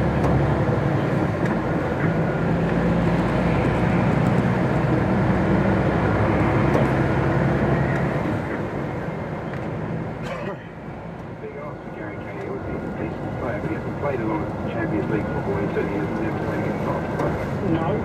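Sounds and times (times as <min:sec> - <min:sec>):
lorry diesel engine running: 0:00.0 - 0:18.0
road noise: 0:00.0 - 0:18.0.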